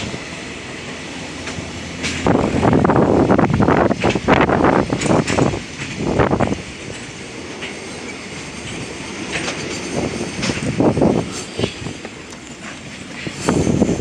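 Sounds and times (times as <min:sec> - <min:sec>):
freight train rumbling past: 0:00.0 - 0:14.0
wheel clacks over rail joints: 0:01.4 - 0:14.0.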